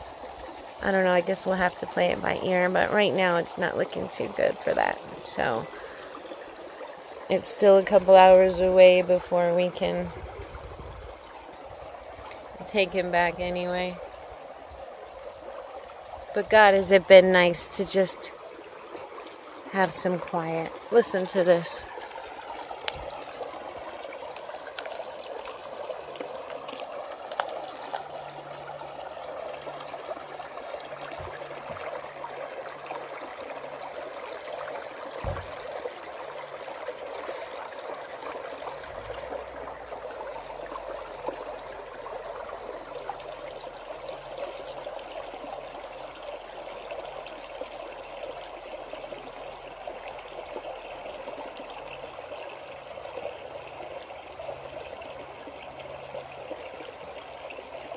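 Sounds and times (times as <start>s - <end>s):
creek trickling over rocks: 0.0s - 57.9s.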